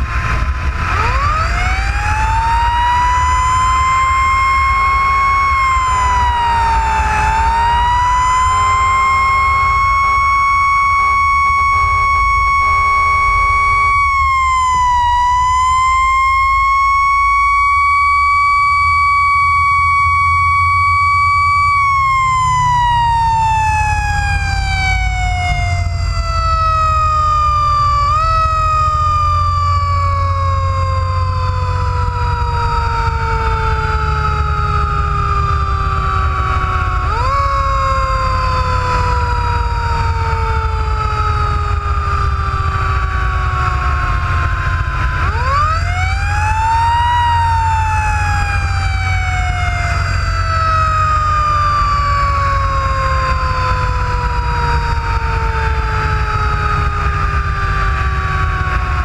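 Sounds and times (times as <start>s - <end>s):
engine low rumble: 0.0s - 59.0s
fire engine siren wailing: 0.0s - 59.0s.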